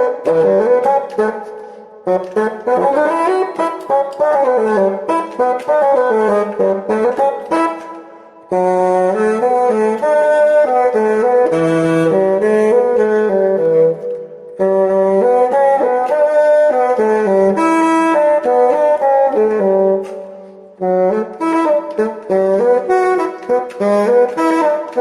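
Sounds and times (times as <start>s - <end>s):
solo bassoon melody: 0.0s - 25.0s.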